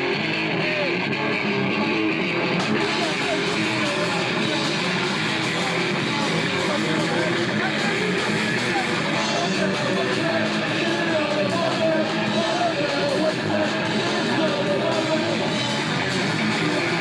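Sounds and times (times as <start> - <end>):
electric guitars: 0.0 - 17.0
person singing: 2.7 - 17.0.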